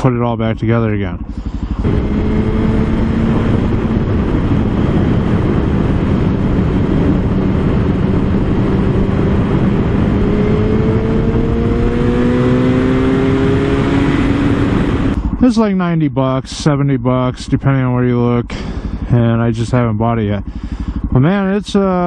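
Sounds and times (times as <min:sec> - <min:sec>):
wind and road noise: 0:00.0 - 0:21.4
motorcycle engine running: 0:00.0 - 0:22.0.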